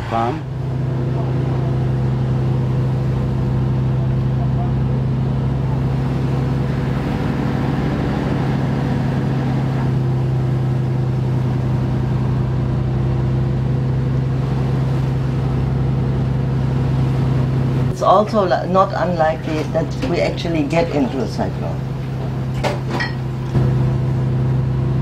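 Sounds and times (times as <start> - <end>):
boat engine droning: 0.0 - 25.0
water rushing along hull: 0.0 - 25.0.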